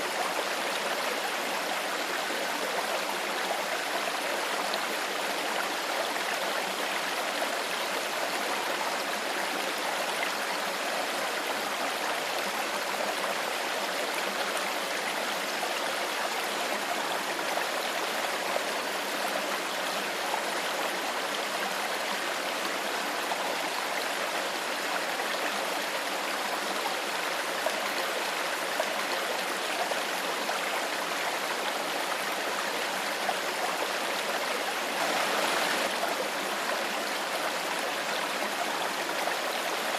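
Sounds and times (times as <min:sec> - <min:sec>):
shallow stream flowing: 0:00.0 - 0:39.9.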